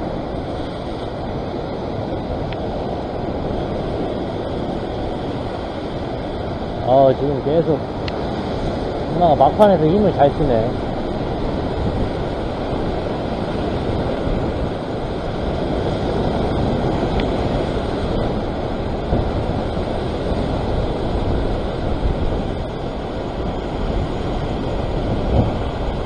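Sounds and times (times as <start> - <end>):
sea surf churning: 0.0 - 26.0
wind on microphone: 0.0 - 26.0.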